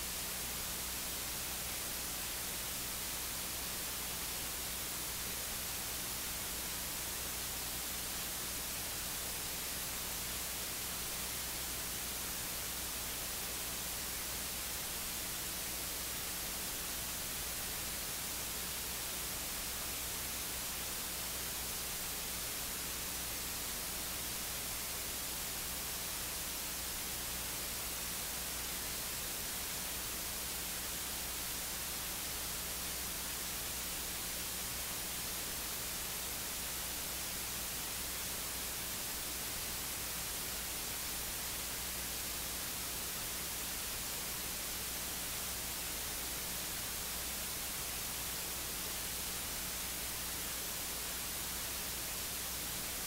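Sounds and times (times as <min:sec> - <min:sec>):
low mains hum: 0:00.0 - 0:53.0.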